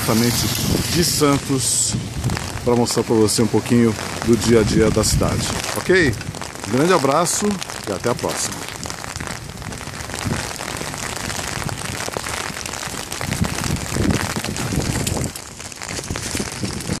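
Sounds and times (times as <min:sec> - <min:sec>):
rain falling on pavement: 0:00.0 - 0:17.0
wind rumbling on microphone: 0:00.0 - 0:17.0.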